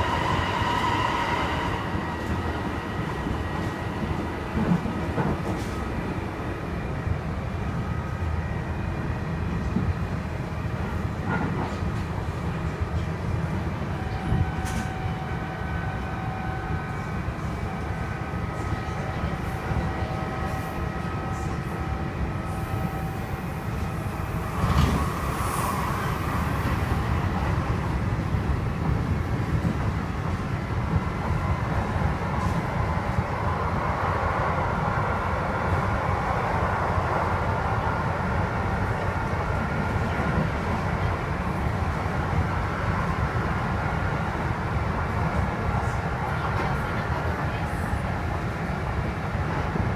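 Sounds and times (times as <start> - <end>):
electric train rumbling: 0.0 - 49.9.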